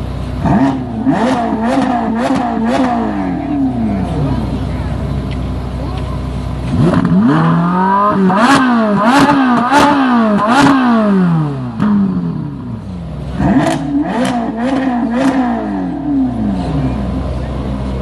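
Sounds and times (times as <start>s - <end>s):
sports car engine revving: 0.0s - 18.0s.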